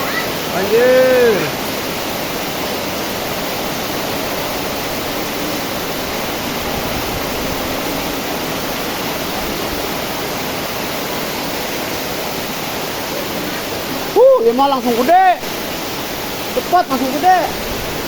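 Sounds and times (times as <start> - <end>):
heavy rain pouring: 0.0 - 18.0
rushing floodwater: 0.0 - 18.0.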